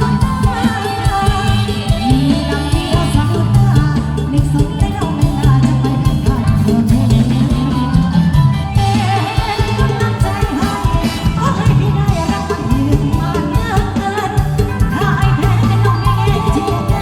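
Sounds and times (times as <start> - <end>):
bass: 0.0 - 17.0
drum kit steady beat: 0.0 - 17.0
live band playing dance music: 0.0 - 17.0
person singing: 0.0 - 17.0.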